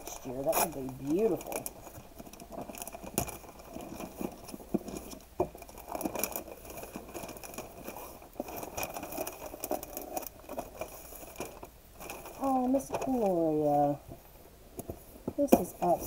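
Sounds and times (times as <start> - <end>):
wrapping paper rustling: 0.0 - 14.0.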